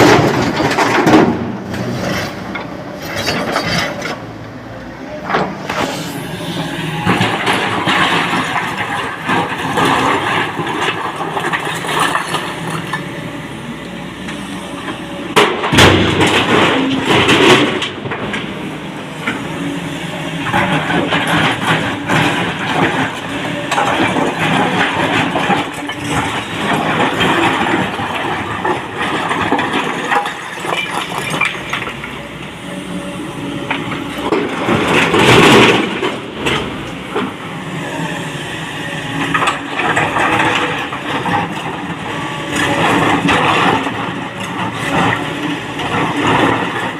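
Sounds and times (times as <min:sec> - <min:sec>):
excavator engine running: 0:00.0 - 0:46.9.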